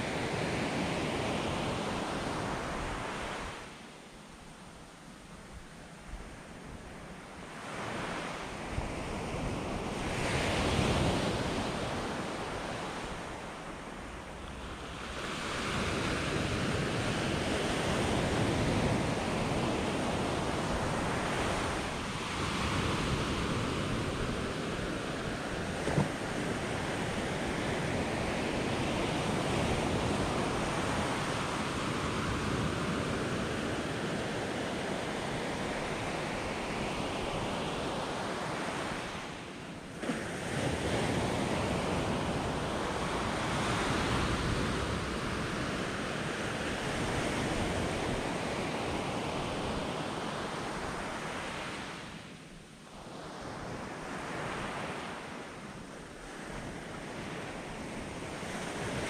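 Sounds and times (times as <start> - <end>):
surf washing up beach: 0.0 - 3.9, 5.4 - 59.0.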